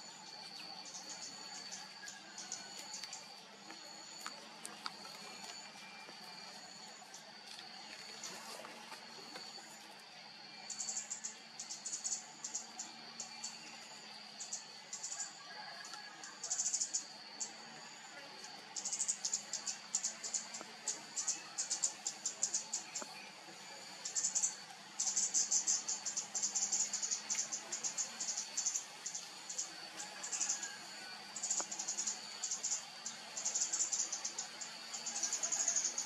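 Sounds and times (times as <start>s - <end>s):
insects trilling: 0.0s - 36.0s
steady high whine: 0.0s - 36.0s.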